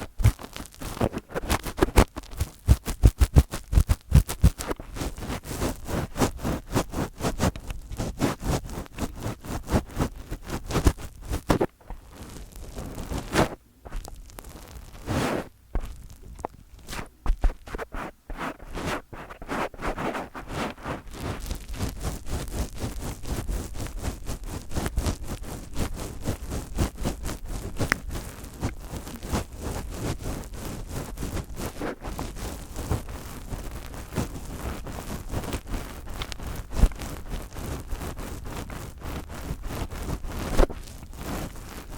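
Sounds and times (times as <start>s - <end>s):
fingers rubbing on microphone: 0.0s - 41.9s.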